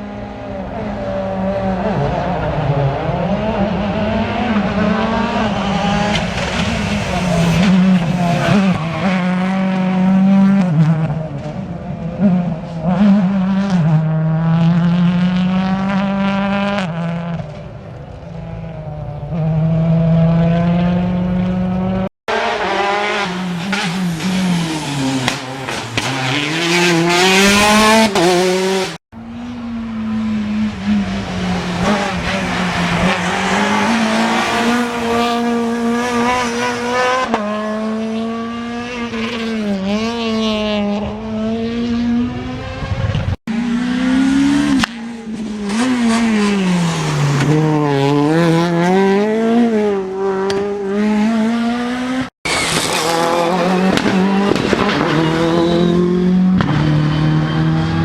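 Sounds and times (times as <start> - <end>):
rally car engines accelerating: 0.0 - 58.0.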